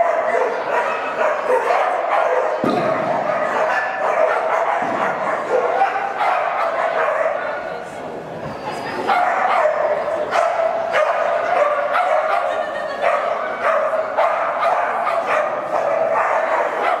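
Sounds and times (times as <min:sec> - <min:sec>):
dog barking: 0:00.0 - 0:07.5, 0:09.1 - 0:17.0.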